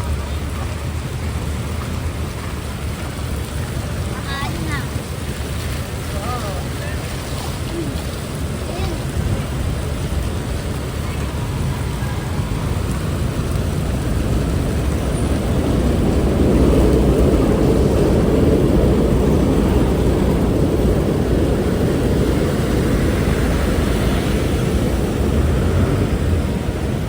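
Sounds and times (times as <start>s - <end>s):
traffic rumble: 0.0s - 27.0s
vehicle engine passing: 0.0s - 27.0s.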